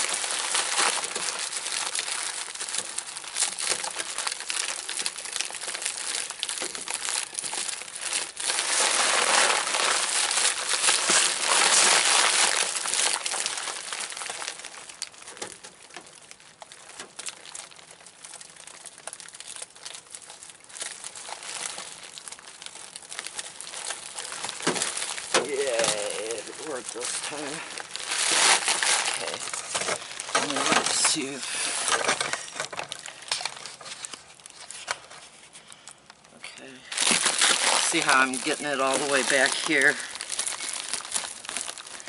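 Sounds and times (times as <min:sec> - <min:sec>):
plastic sheeting and foil crinkling: 0:00.0 - 0:42.0.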